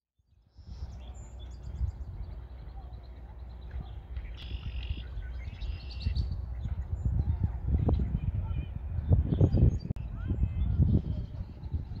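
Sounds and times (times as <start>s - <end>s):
small birds chirping: 0.2s - 12.0s
wind buffeting microphone: 0.3s - 12.0s.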